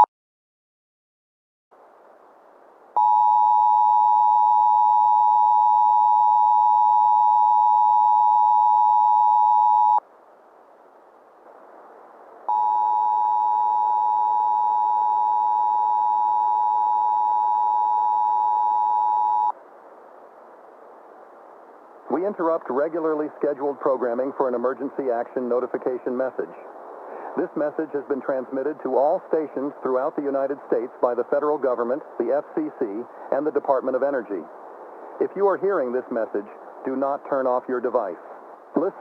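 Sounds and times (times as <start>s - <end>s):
static hiss: 1.7s - 39.0s.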